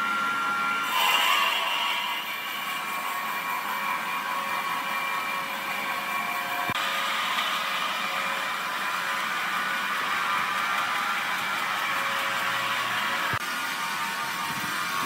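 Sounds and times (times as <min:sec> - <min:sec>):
wood-processing machinery whirring: 0:00.0 - 0:15.0.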